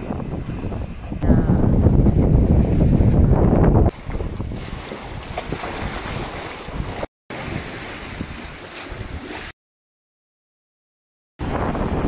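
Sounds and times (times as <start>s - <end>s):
wind on microphone: 0.0s - 9.5s, 11.4s - 12.0s
seawater rushing and splashing: 0.0s - 9.6s, 11.4s - 12.0s.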